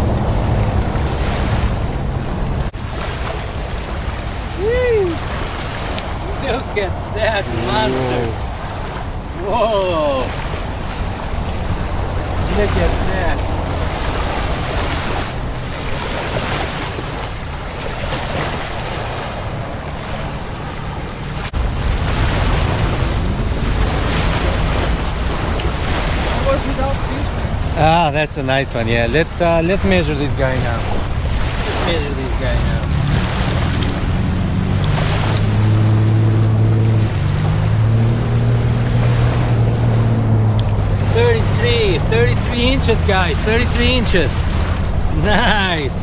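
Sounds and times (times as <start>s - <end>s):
boat engine droning: 0.0s - 46.0s
small waves lapping on sand: 0.0s - 46.0s
wind buffeting microphone: 0.0s - 46.0s.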